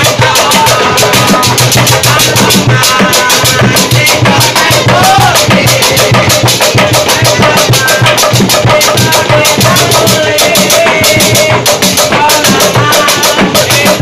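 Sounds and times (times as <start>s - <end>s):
drums beaten in fast beat: 0.0s - 14.0s
men shouting and chanting: 0.0s - 14.0s.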